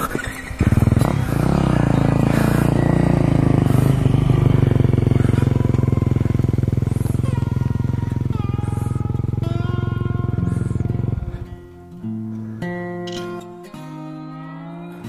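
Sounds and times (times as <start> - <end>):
dirt bike engine idling: 0.0 - 12.7.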